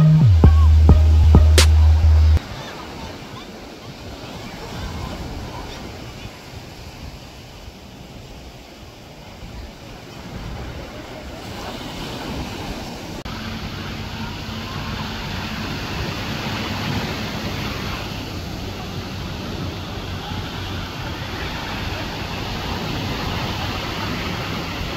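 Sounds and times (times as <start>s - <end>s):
ocean surf on beach: 2.4s - 24.9s.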